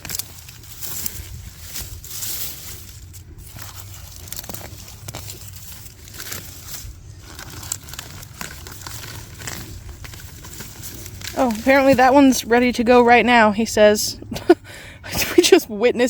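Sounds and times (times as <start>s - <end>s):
dry leaves crinkling and rustling: 0.0s - 13.5s.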